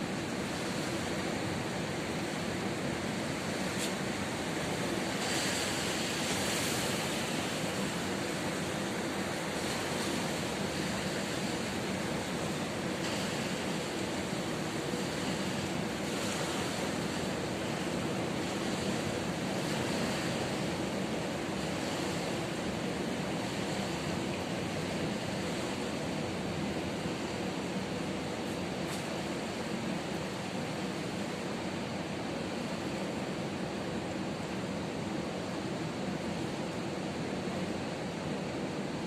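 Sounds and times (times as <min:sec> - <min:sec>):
ocean surf washing onto beach: 0:00.0 - 0:39.0.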